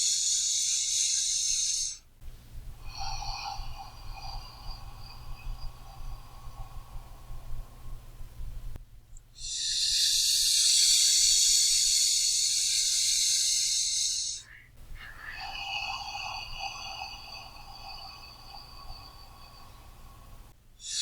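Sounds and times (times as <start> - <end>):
person breathing deeply: 0.0 - 2.0, 2.8 - 8.2, 9.4 - 21.0.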